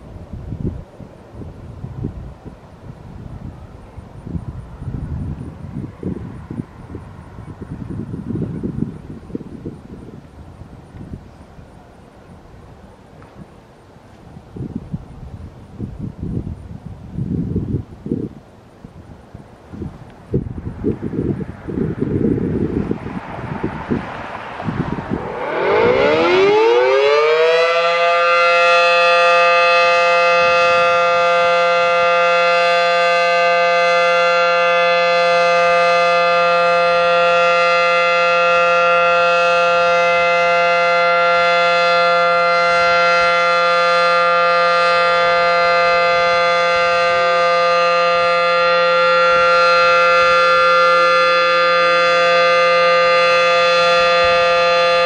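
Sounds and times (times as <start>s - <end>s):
outdoor warning siren: 0.9s - 14.8s, 19.8s - 55.0s.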